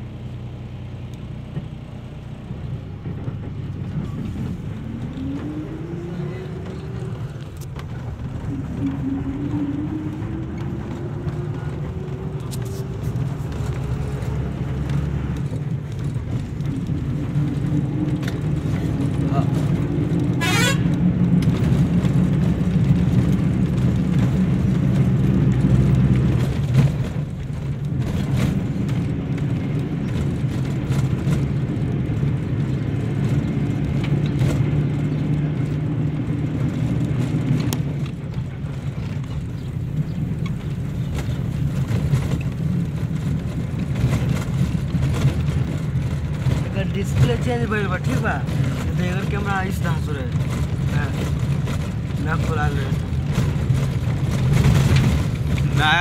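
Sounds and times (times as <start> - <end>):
engine drone and road noise: 0.0 - 56.0.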